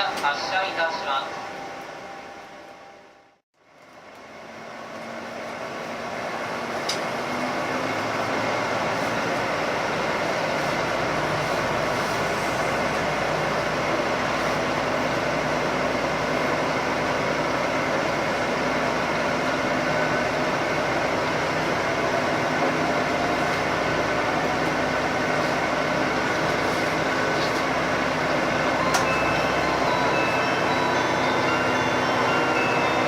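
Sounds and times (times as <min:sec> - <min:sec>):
diesel train engine: 0:00.0 - 0:33.0
train wheels rumbling on track: 0:03.8 - 0:33.0.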